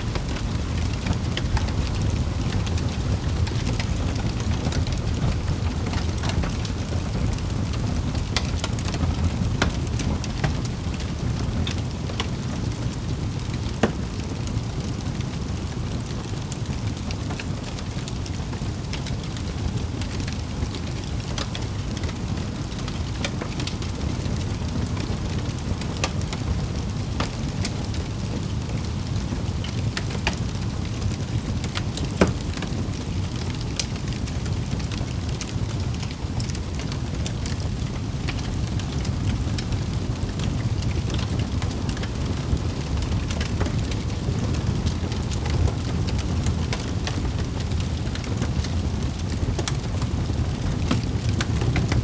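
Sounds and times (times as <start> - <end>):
low rumble of burning: 0.0 - 52.0
wood fire crackling and popping: 0.0 - 52.0.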